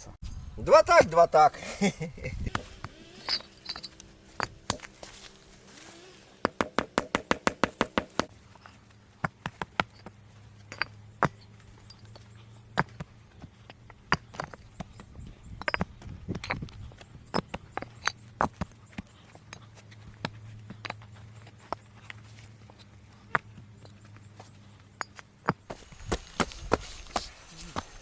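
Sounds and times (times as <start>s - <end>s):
mallet knocking bricks: 2.5s - 5.5s, 6.4s - 25.8s.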